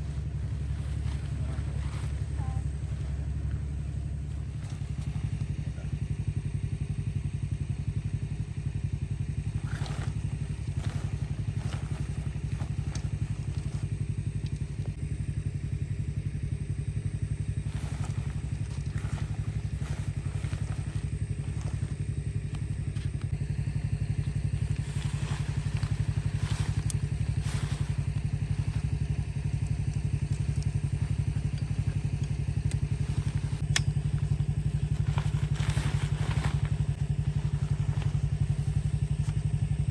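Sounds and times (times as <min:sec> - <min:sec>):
engine rumbling steadily: 0:00.0 - 0:39.9.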